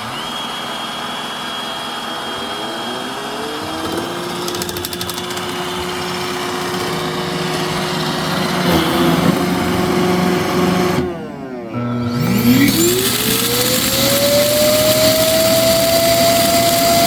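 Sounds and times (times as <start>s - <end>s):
robot vacuum motor hum: 2.2s - 17.0s.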